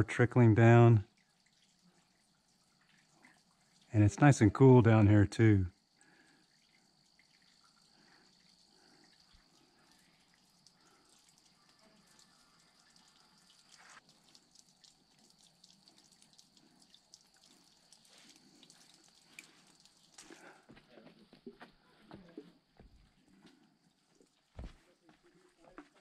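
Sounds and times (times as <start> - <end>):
water dripping and trickling: 0.0 - 26.0.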